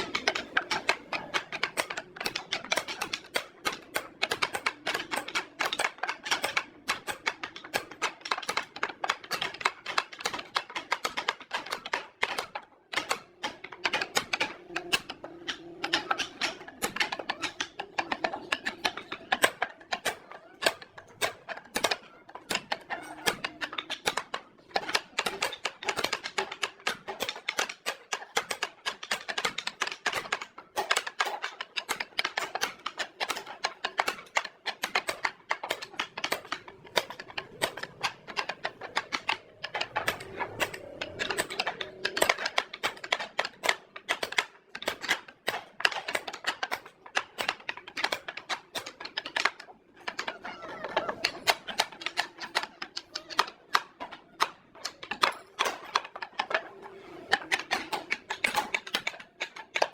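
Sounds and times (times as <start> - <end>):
rapid irregular clicking and tapping: 0.0 - 59.9.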